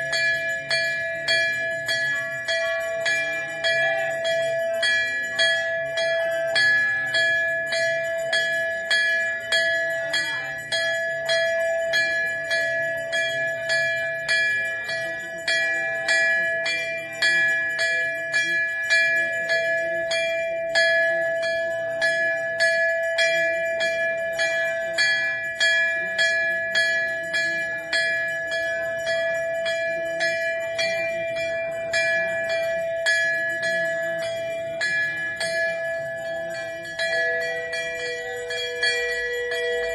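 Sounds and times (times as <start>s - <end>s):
large brass bell ringing: 0.0s - 39.9s.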